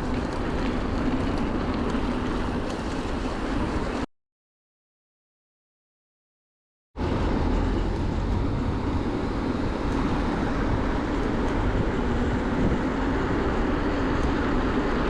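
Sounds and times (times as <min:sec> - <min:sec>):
bicycle road noise: 0:00.0 - 0:04.1, 0:07.0 - 0:15.0.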